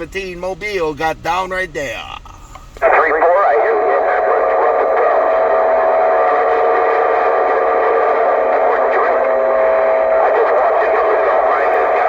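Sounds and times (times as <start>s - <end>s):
steady humming tones: 0.0s - 12.0s
radio static hiss: 2.1s - 12.0s.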